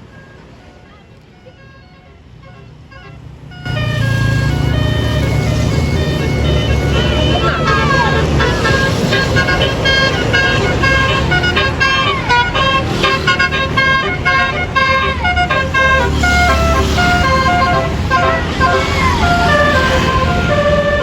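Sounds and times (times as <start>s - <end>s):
bus engine rumble: 0.0s - 21.0s
multi-note air horn melody: 1.4s - 21.0s.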